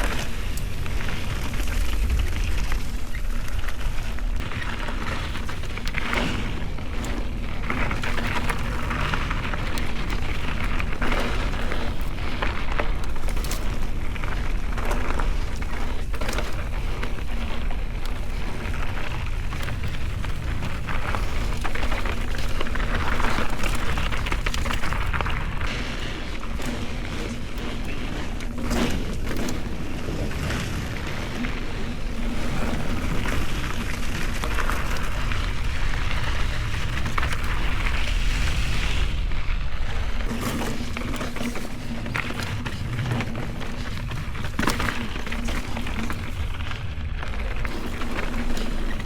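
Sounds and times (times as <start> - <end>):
bike rattling: 0.0 - 49.0
tyres crunching over gravel: 0.0 - 49.0.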